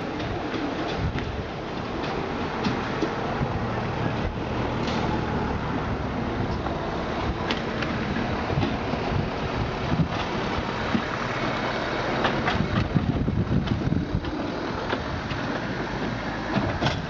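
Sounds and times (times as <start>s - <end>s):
locomotive clanks: 0.0s - 17.0s
steam locomotive running: 0.0s - 17.0s.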